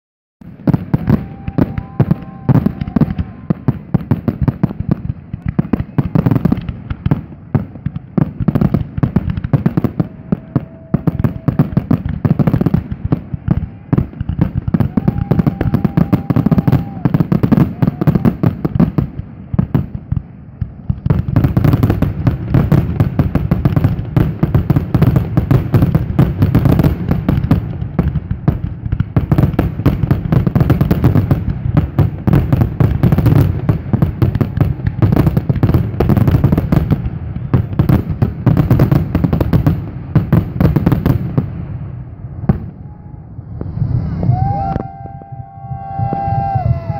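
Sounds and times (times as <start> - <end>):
fireworks booms and crackles: 0.4 - 46.9.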